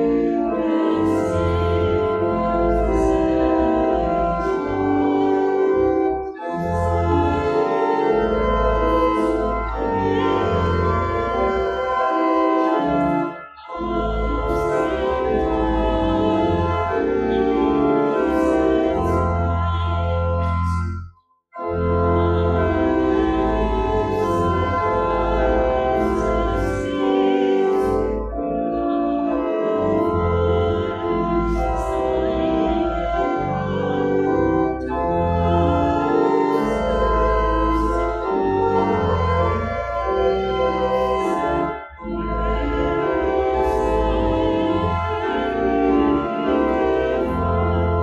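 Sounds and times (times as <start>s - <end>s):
congregation singing: 0.0s - 20.8s, 22.0s - 48.0s
church organ playing hymn: 0.0s - 48.0s.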